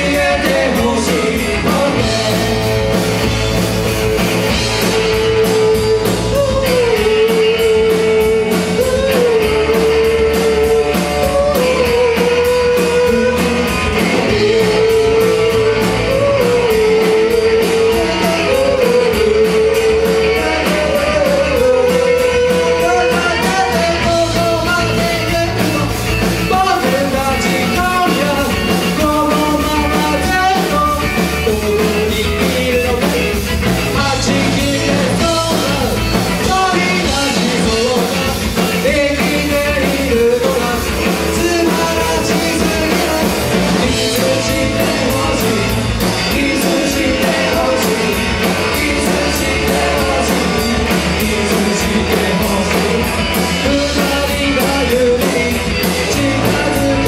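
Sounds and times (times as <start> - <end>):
person singing: 0.0 - 3.4, 4.2 - 57.0
bass: 0.0 - 57.0
electric guitars: 0.0 - 57.0
steady drum beat: 0.0 - 57.0.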